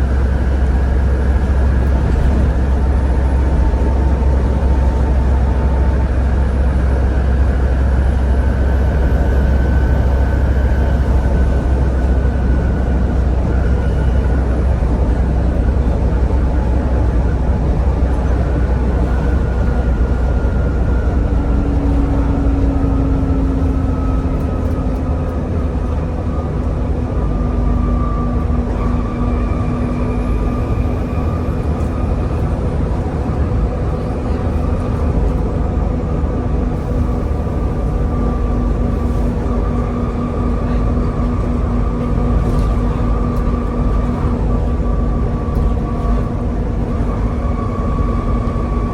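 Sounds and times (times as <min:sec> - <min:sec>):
bus engine rumble: 0:00.0 - 0:48.9
high drivetrain whine: 0:00.0 - 0:48.9
road noise: 0:00.0 - 0:48.9.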